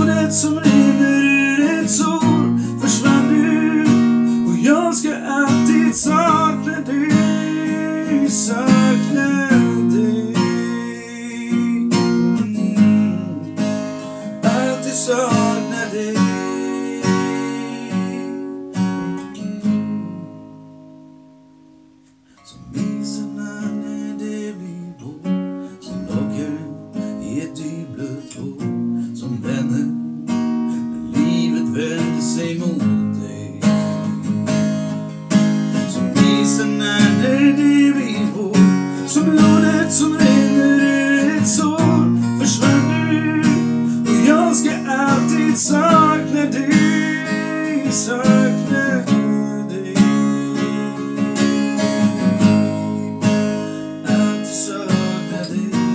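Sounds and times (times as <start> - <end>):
man singing: 0.0 - 20.4, 22.4 - 34.6, 35.7 - 55.9
acoustic guitar strumming chords: 0.0 - 55.9.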